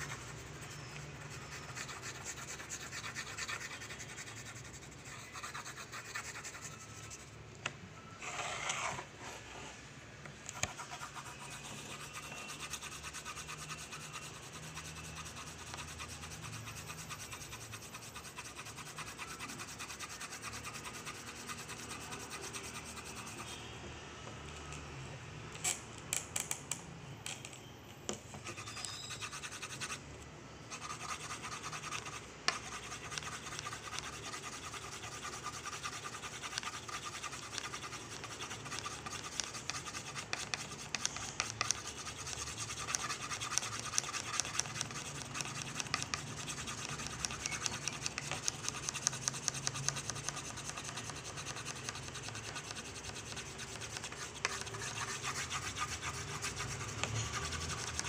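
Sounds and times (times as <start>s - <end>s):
pencil shading on paper: 0.0s - 7.3s, 10.6s - 23.6s, 28.4s - 30.0s, 30.7s - 58.0s.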